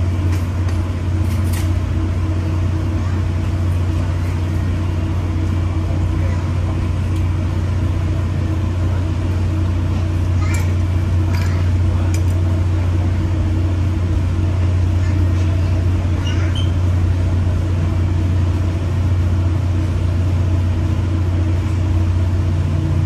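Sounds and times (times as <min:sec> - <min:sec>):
train hum and rumble: 0:00.0 - 0:23.0.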